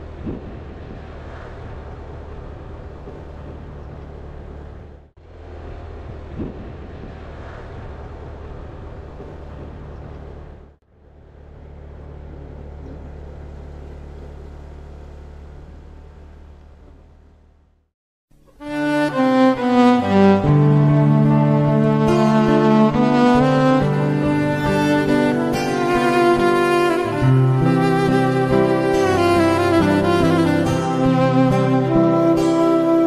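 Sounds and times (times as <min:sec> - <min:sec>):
vehicle engine hum and road noise: 0:00.0 - 0:33.0.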